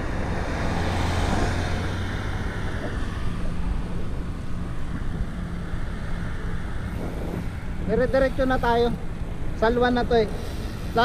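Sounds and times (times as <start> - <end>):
car engine drone: 0.0 - 11.0
tyre and road noise: 0.0 - 11.0.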